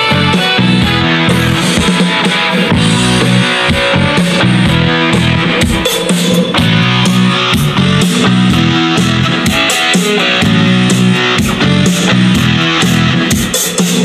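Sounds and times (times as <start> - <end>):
backing track with guitar and drums: 0.0 - 14.0.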